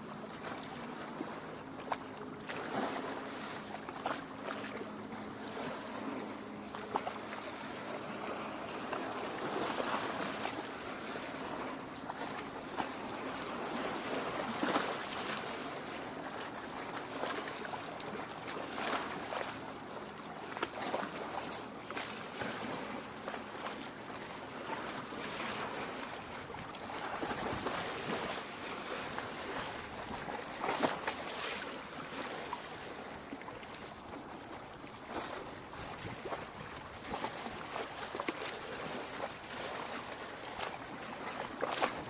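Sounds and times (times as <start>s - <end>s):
lake waves lapping on shore: 0.0s - 42.0s.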